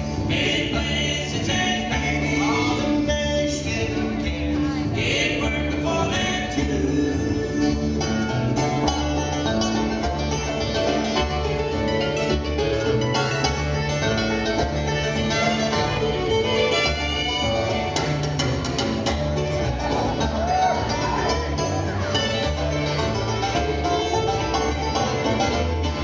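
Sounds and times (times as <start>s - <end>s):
bluegrass band playing: 0.0s - 26.0s
fiddle: 0.0s - 26.0s.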